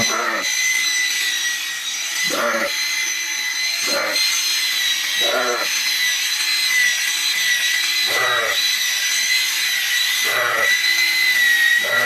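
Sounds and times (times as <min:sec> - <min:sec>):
electric clipper whining: 0:00.0 - 0:12.0.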